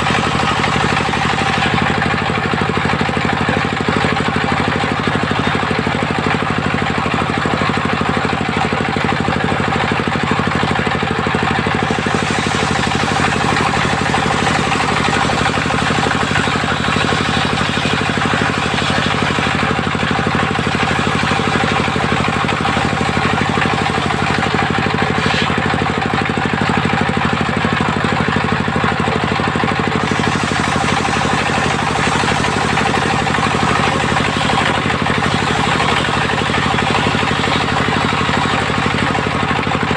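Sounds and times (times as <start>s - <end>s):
sawmill engine running steadily: 0.0s - 39.9s.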